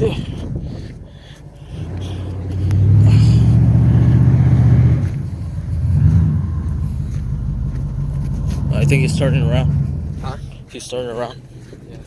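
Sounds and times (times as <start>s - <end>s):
large vehicle engine droning: 0.0s - 11.5s.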